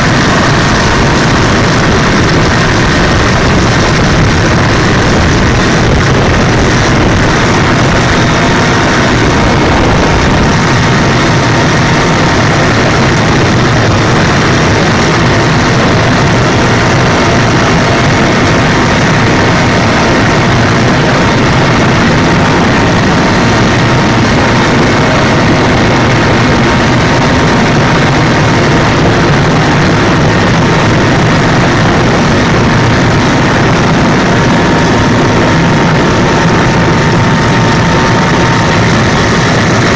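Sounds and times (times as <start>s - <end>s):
faint steady whine: 0.0s - 39.9s
helicopter engine and rotor noise: 0.0s - 39.9s.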